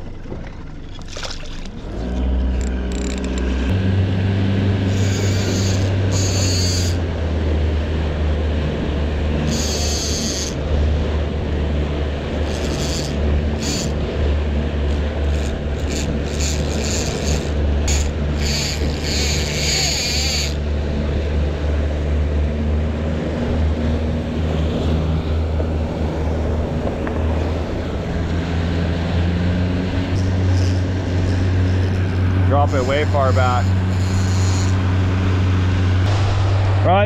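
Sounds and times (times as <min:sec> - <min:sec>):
boat wake rushing: 0:00.0 - 0:37.0
outboard motor droning: 0:00.0 - 0:37.0.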